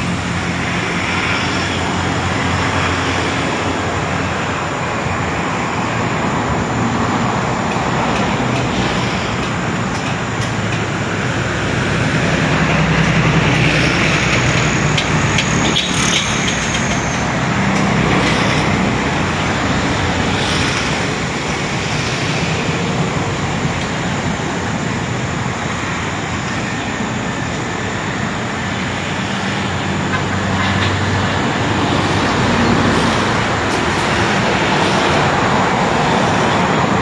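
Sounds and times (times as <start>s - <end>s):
passing vehicles rushing: 0.0s - 37.0s.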